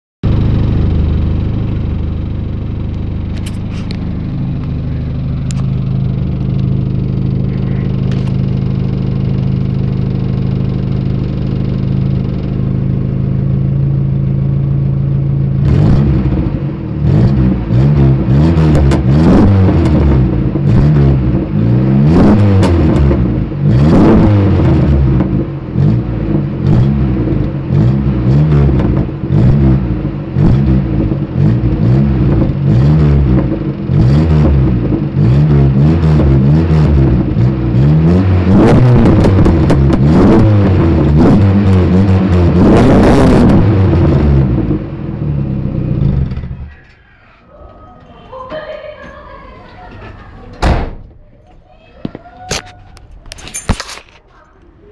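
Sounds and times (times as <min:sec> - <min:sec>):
car engine idling and revving: 0:00.2 - 0:46.8, 0:53.0 - 0:54.4.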